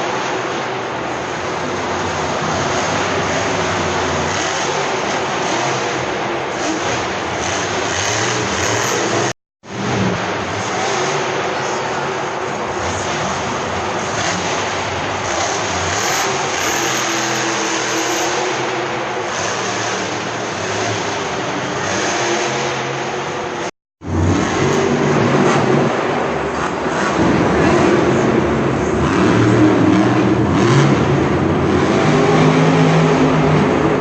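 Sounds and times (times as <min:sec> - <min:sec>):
monster truck engine roaring: 0:00.0 - 0:34.0.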